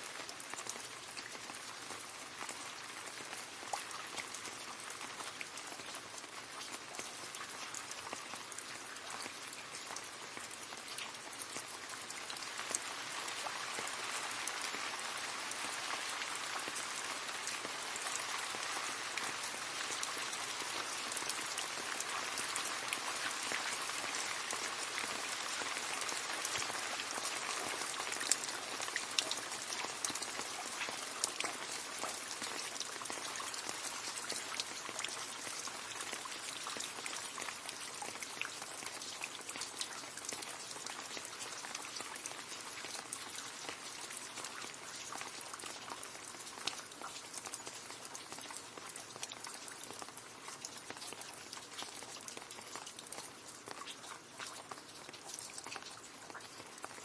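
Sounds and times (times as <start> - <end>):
rain splashing into puddle: 0.0 - 57.0.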